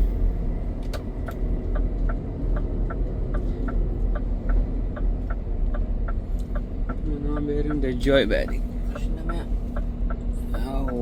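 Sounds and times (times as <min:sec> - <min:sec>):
diesel engine rumble: 0:00.0 - 0:11.0
turn signal ticking: 0:00.0 - 0:11.0.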